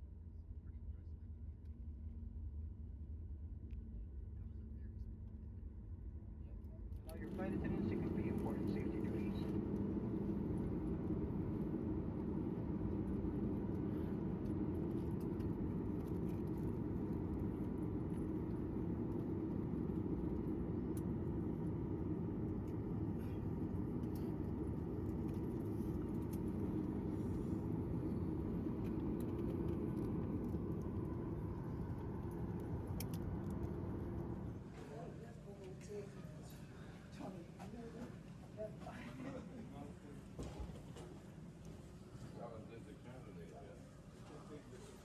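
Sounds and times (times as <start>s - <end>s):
airliner cabin drone: 0.1s - 45.0s.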